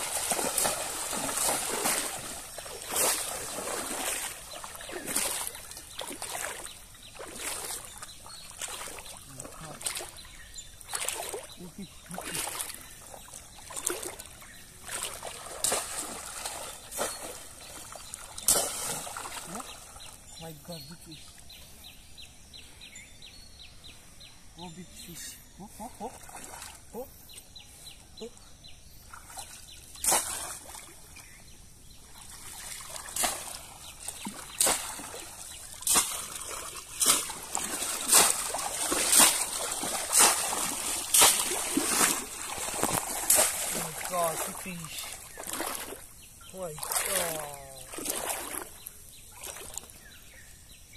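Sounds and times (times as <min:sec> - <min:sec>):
water splashing: 0:00.0 - 0:21.3, 0:25.6 - 0:27.0, 0:29.0 - 0:31.2, 0:32.0 - 0:50.1.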